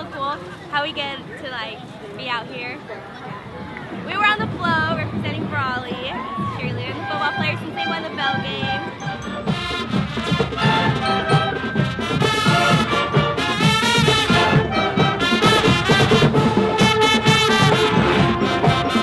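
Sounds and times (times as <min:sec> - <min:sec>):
lively music with steady beat: 0:03.7 - 0:19.0.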